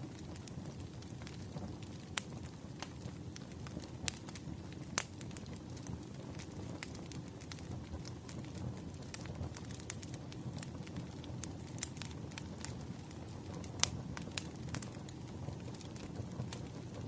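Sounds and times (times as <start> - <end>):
campfire crackling: 0.0 - 17.0
low rumble of flames: 0.0 - 17.0.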